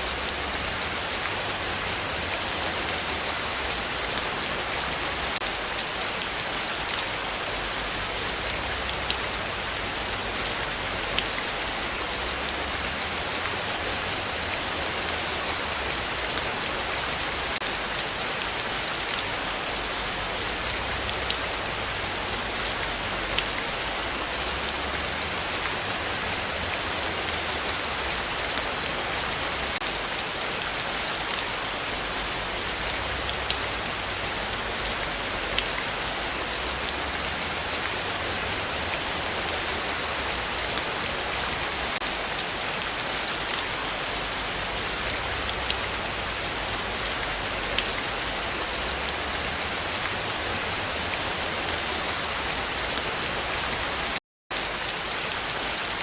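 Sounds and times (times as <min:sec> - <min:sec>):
raindrops ticking close by: 0:00.0 - 0:55.0
heavy rain falling: 0:00.0 - 0:56.0.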